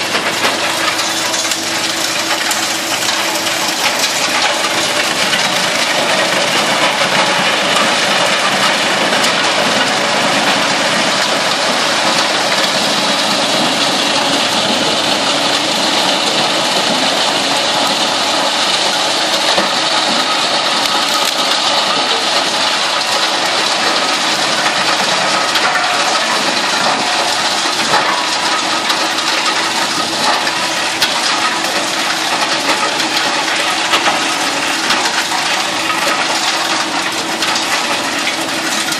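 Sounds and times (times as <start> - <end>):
tractor engine: 0.0 - 38.9
wood chipper running: 0.0 - 38.9.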